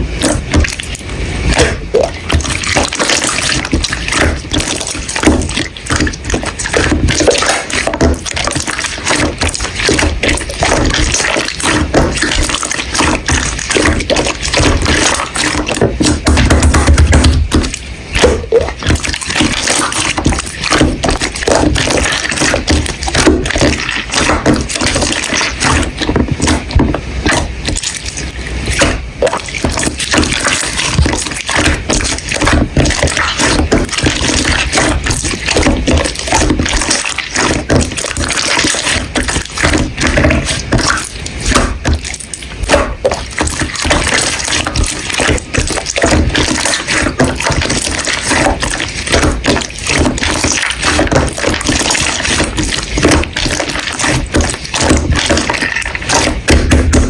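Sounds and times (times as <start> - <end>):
slime squishing: 0.0 - 57.0.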